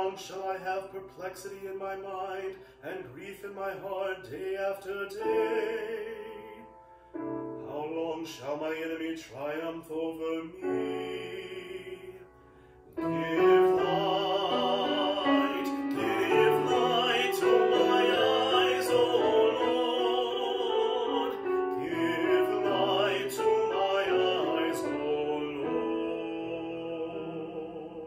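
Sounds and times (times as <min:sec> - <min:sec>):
man singing operatically: 0:00.0 - 0:06.8, 0:07.6 - 0:12.3, 0:13.0 - 0:28.0
grand piano: 0:00.0 - 0:28.0.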